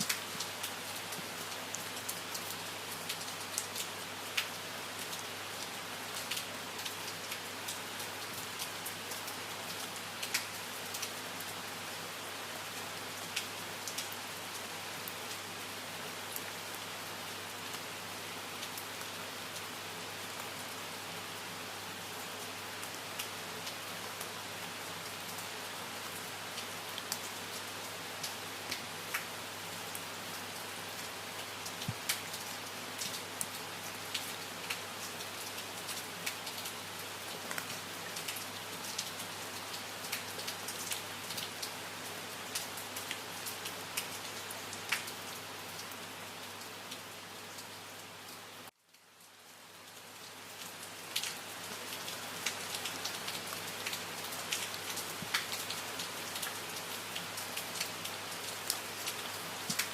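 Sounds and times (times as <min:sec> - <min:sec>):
rain falling: 0:00.0 - 0:59.9
raindrops hitting surfaces: 0:00.0 - 0:59.9.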